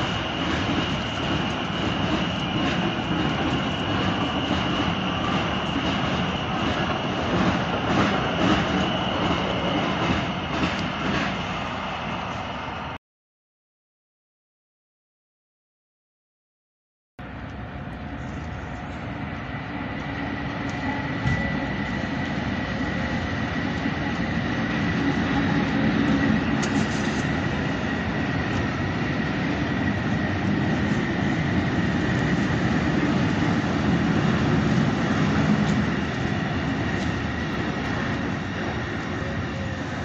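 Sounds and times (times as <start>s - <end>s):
train wheels rumbling on rails: 0.0s - 13.0s, 17.2s - 40.0s.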